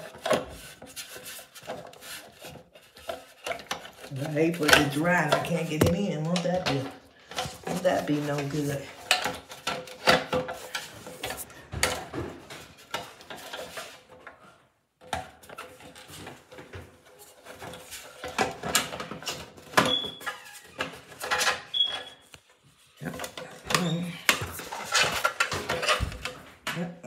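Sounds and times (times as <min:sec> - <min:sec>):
clicks knocks and scrapes: 0:00.0 - 0:26.9.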